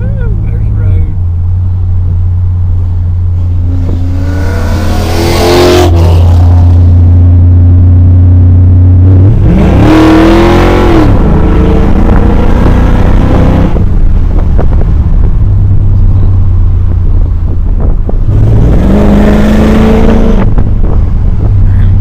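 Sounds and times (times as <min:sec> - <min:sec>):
car exhaust droning: 0:00.0 - 0:22.0.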